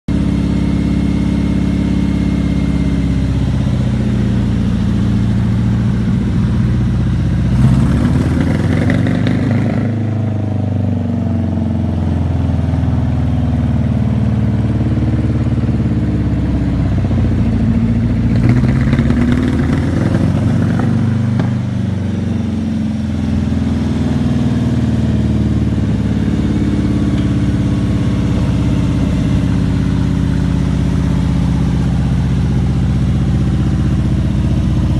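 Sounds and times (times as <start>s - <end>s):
tractor engine idling and revving: 0.1s - 34.9s.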